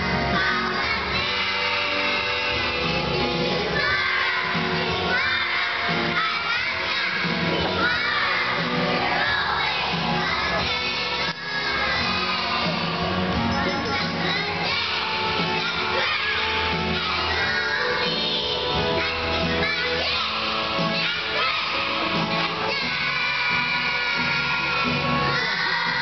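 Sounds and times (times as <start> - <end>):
accompanying music: 0.0 - 26.0
children singing in unison: 0.0 - 26.0.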